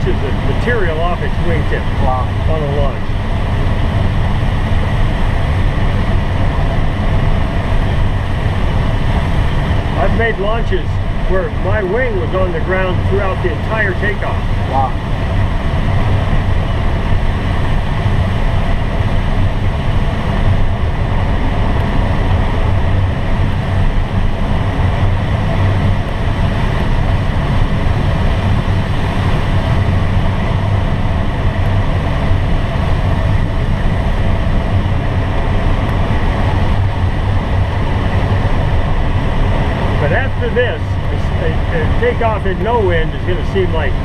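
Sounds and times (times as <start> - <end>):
airflow rush in cockpit: 0.0 - 44.0
low engine drone: 0.0 - 44.0.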